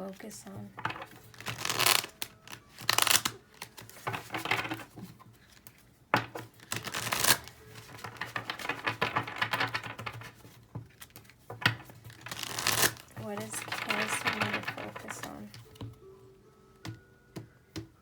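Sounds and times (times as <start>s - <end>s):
cards being shuffled: 0.2s - 16.0s.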